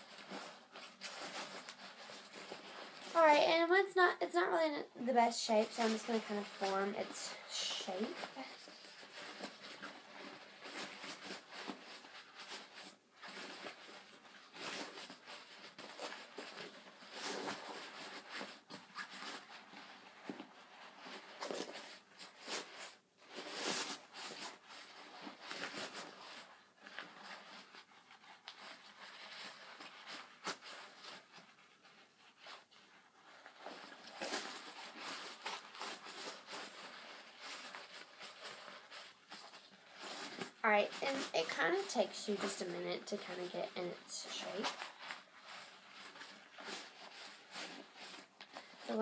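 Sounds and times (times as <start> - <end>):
fabric bag crinkling: 0.0 - 49.0.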